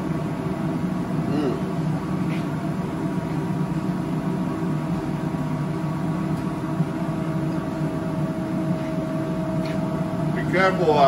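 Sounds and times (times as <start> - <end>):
faint humming tones: 0.0 - 11.0
kitchen machine drone: 0.0 - 11.0.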